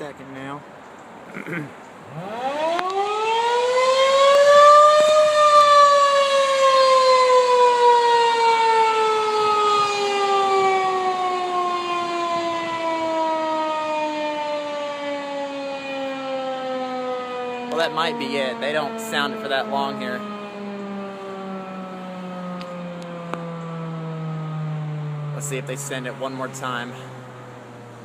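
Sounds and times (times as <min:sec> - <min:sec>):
tornado siren wailing: 0:02.0 - 0:28.0.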